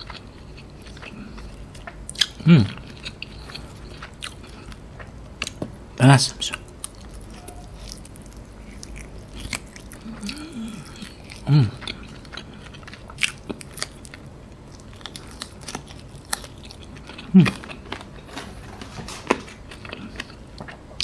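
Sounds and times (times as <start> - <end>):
chewing crispy chicken: 0.0 - 5.6, 6.4 - 21.0.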